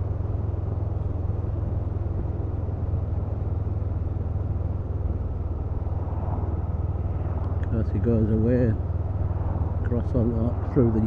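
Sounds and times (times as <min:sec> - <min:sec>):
motorcycle engine drone: 0:00.0 - 0:11.0
road and wind rush: 0:00.0 - 0:11.0.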